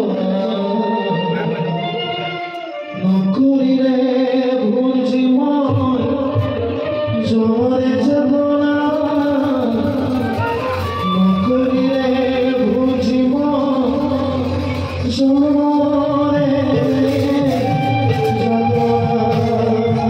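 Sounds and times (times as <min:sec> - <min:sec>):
instrumental accompaniment: 0:00.0 - 0:20.0
person singing long held notes: 0:00.0 - 0:20.0.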